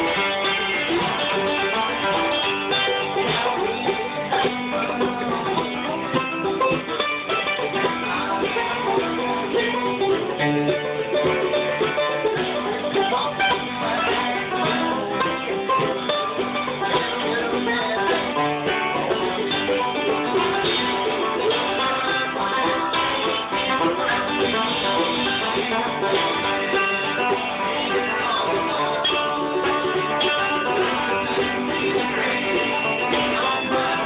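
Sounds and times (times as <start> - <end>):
acoustic guitar: 0.0 - 34.0
mandolin: 0.0 - 34.0.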